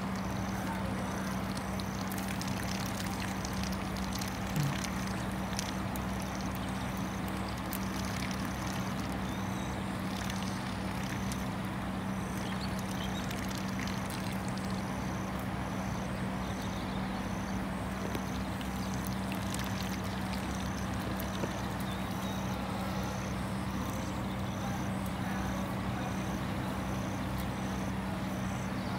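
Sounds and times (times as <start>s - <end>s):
even wash of noise: 0.0s - 16.4s, 17.6s - 25.0s
steady low hum: 0.0s - 28.9s.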